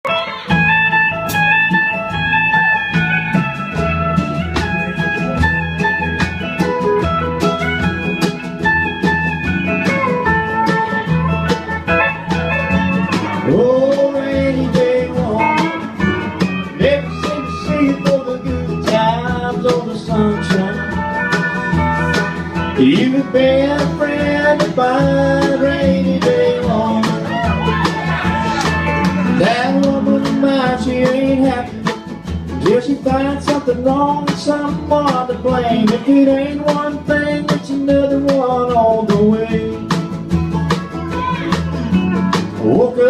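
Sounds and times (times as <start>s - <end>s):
bending sliding guitar notes: 0.0s - 43.0s
country band playing: 0.0s - 43.0s.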